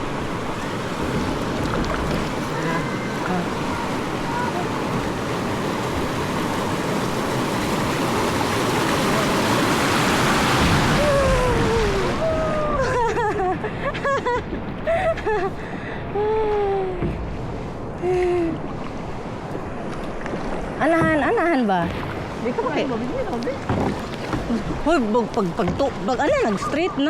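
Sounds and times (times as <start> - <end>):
rushing river water: 0.0 - 27.0.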